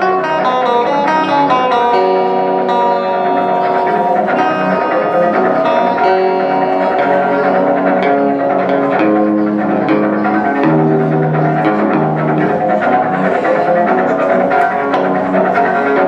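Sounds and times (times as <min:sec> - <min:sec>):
backing line of held notes: 0:00.0 - 0:16.0
plucked guitar solo: 0:00.0 - 0:16.0.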